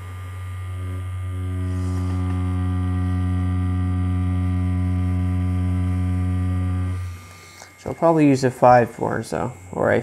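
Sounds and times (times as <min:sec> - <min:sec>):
tattoo machine buzzing: 0:00.0 - 0:10.0.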